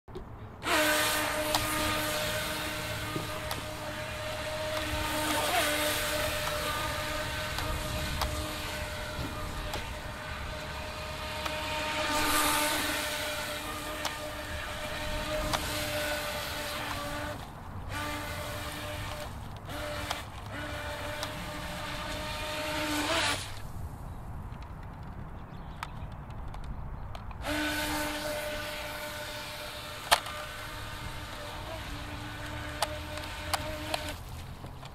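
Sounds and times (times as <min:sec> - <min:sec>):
electric motor high-pitched whine: 0:00.6 - 0:23.7, 0:27.4 - 0:34.4.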